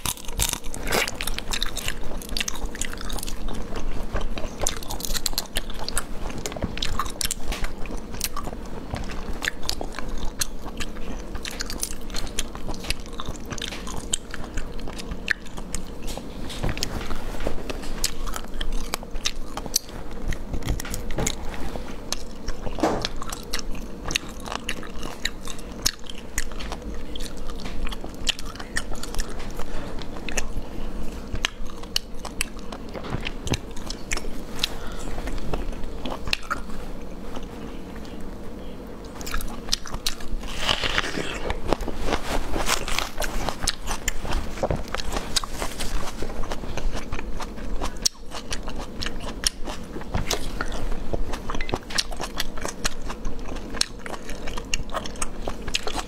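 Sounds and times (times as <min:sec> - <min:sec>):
wet chewing and biting: 0:00.0 - 0:37.5, 0:39.1 - 0:56.0.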